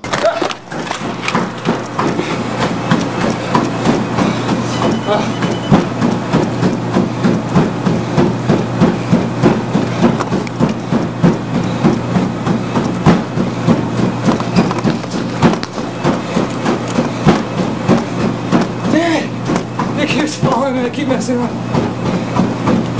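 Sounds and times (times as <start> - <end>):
bare feet slapping treadmill belt: 0.0 - 22.9
treadmill motor and belt hum: 0.0 - 22.9.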